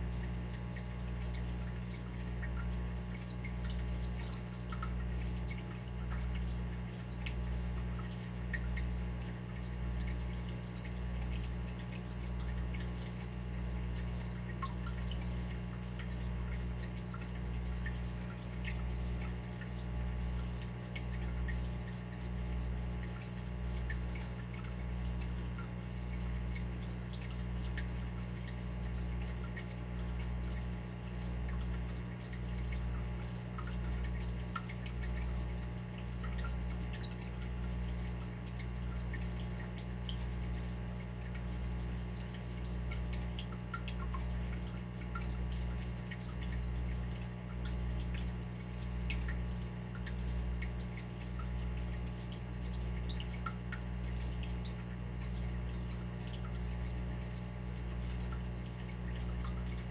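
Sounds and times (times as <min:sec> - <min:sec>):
water dripping: 0:00.0 - 0:59.9.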